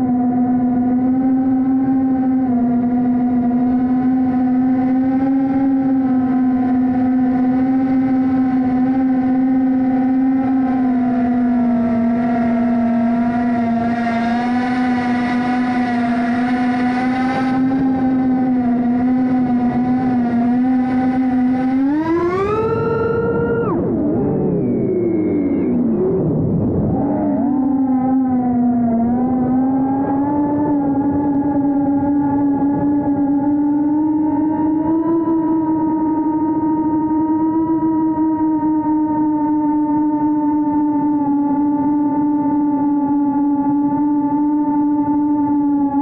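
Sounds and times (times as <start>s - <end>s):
drone propellers whining: 0.0s - 46.0s.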